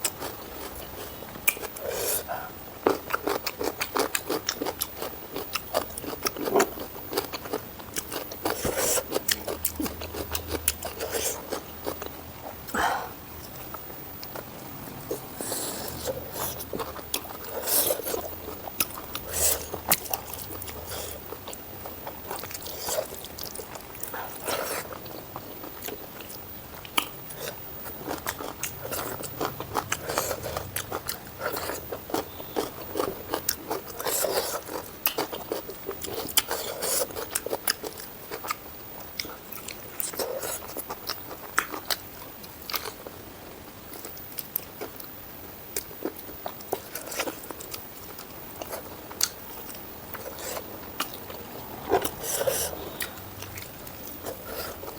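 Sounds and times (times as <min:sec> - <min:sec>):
wet chewing and crunching: 0:00.0 - 0:54.9.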